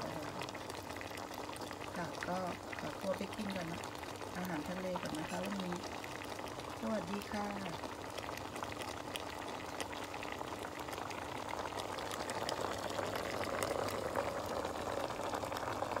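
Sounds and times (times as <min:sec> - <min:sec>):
sauce bubbling in a pan: 0:00.0 - 0:16.0.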